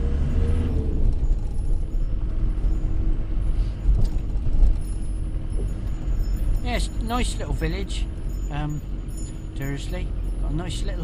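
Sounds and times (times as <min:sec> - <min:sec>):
van engine and road noise: 0:00.0 - 0:11.0.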